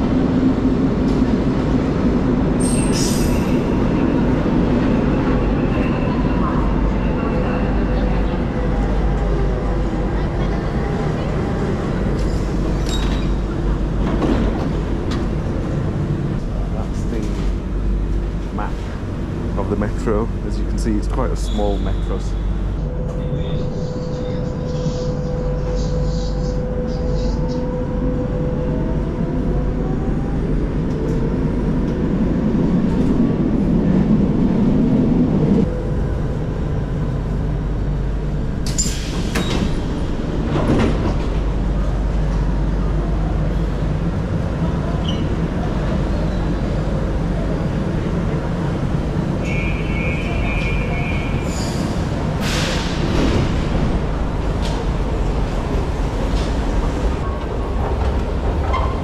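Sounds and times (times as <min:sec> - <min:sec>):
train rumble with motor whine: 0:00.0 - 0:59.0.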